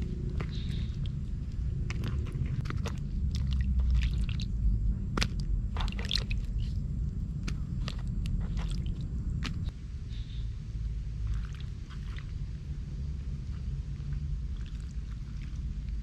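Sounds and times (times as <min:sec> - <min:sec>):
mushrooms washed in water: 0:00.0 - 0:06.8, 0:07.4 - 0:09.7, 0:11.1 - 0:16.0.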